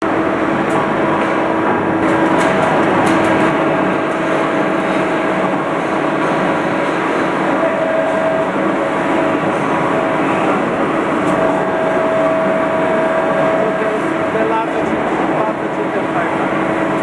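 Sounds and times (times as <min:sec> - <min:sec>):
hydraulic machine humming: 0:00.0 - 0:17.0.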